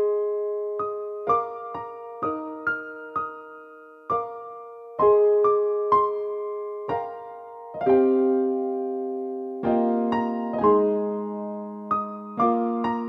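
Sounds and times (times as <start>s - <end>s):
slow electric piano: 0.0s - 13.0s.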